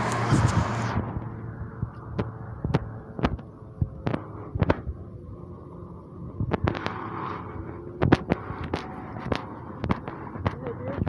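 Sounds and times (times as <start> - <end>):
footsteps on pavement: 0.0 - 5.0, 5.7 - 11.0
low background rumble: 0.0 - 11.0.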